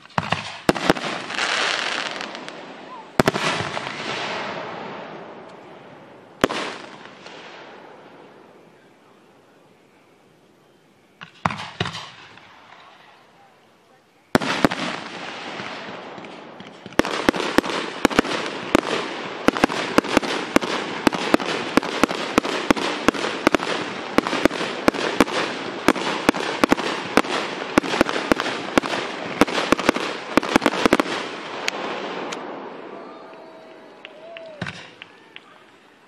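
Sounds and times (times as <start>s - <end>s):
fireworks bangs: 0.0s - 8.5s, 11.2s - 13.3s, 14.2s - 35.6s
fireworks crackling: 0.0s - 8.8s, 11.2s - 36.0s.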